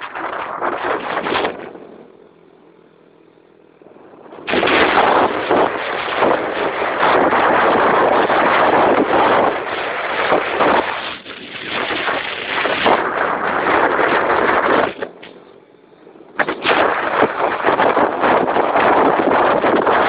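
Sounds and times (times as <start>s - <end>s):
motorbike road and engine noise: 0.0s - 20.0s
wind buffeting microphone: 0.0s - 20.0s.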